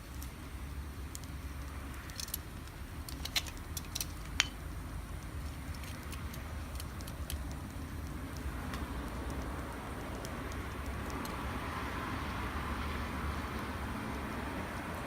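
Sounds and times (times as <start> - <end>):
sharp pops and snaps: 0.0 - 11.8, 12.6 - 15.0
low fire rumble: 0.0 - 15.0
wood fire crackling: 0.0 - 15.0.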